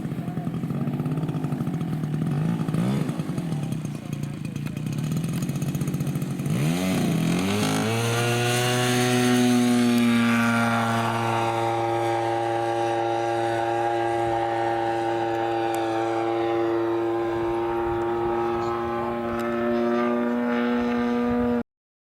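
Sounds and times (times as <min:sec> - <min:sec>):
model airplane engine droning: 0:00.0 - 0:21.6.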